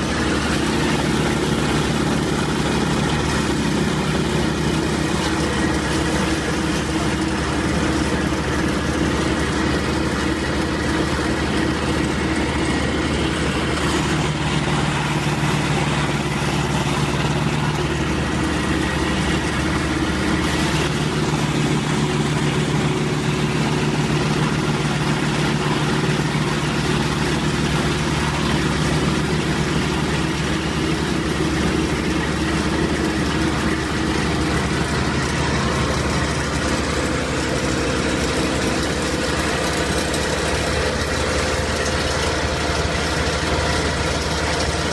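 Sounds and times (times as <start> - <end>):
wood chipper engine drone: 0.0 - 44.9.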